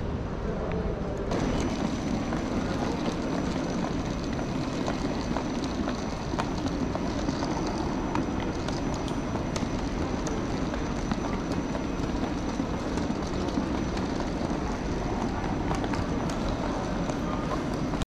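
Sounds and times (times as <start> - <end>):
suitcase wheels rumbling on tile: 1.3 - 18.0.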